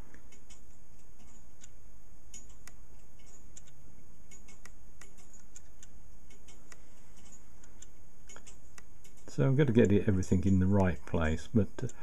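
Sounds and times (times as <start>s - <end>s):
clock mechanism clicking: 0.1s - 12.0s.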